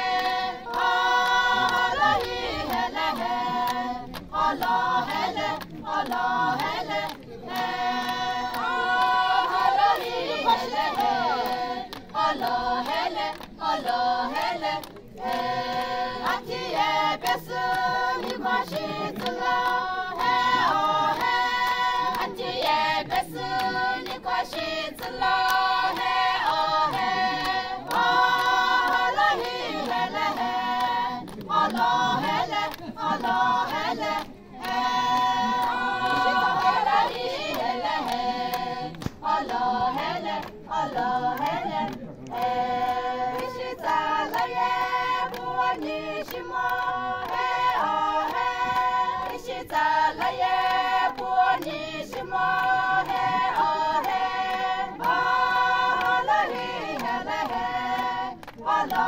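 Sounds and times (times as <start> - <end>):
women singing in chorus: 0.0 - 59.0.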